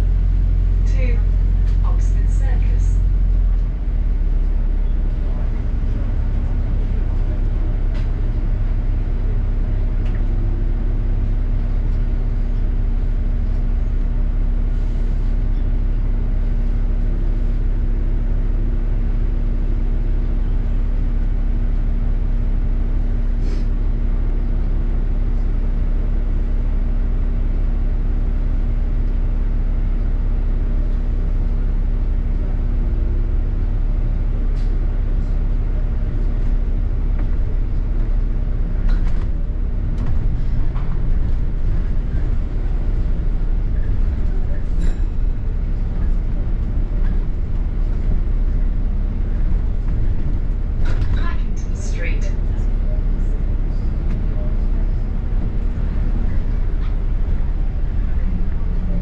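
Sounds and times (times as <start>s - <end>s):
bus drivetrain and road rumble: 0.0s - 59.0s
constant hum: 0.0s - 59.0s.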